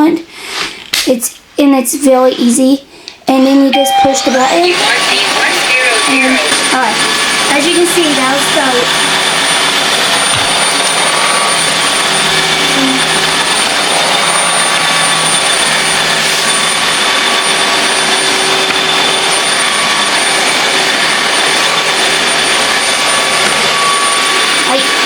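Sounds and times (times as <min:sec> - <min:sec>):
vacuum mop motor whirring: 0:04.3 - 0:25.0.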